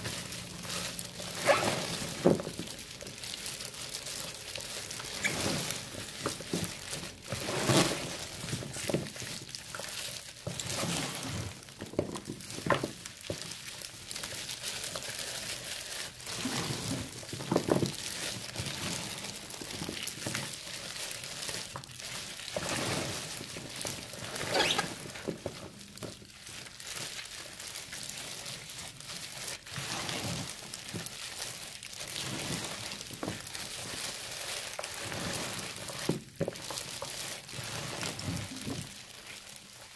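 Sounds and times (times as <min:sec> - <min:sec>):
wet squishing and crinkling: 0:00.0 - 0:39.9.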